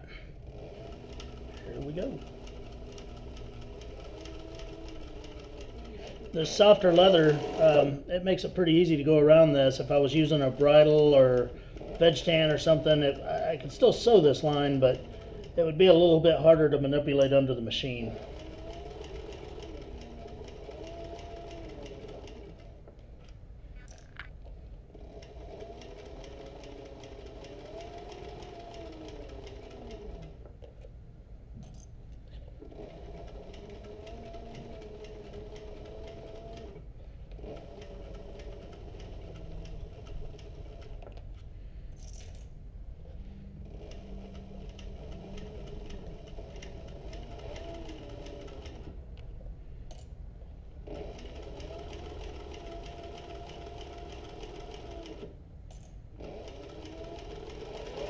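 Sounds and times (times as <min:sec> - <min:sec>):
sewing machine stitching leather: 0:00.0 - 0:24.2, 0:24.8 - 0:30.8, 0:32.4 - 0:41.2, 0:43.1 - 0:49.0, 0:50.8 - 0:58.0.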